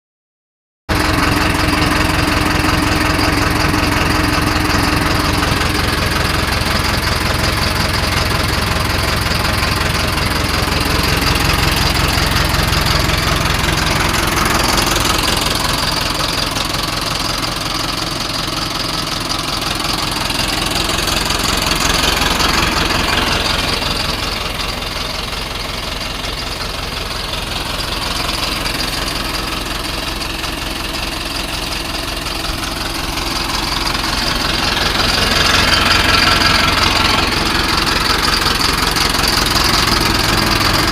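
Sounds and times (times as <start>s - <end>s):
tractor diesel engine idling: 0.9s - 40.9s.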